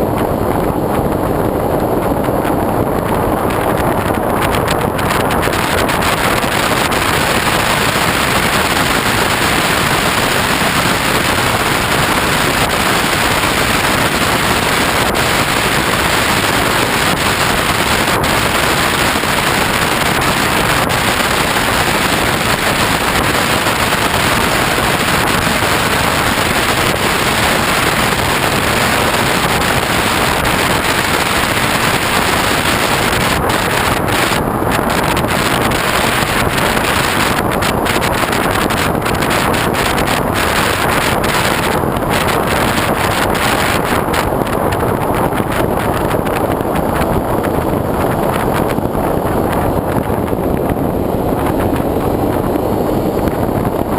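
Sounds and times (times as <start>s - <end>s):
loud wind rush: 0.0s - 53.9s.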